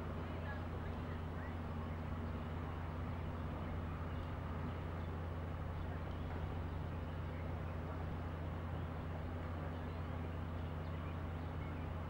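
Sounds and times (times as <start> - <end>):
distant outboard motor drone: 0.0 - 12.0.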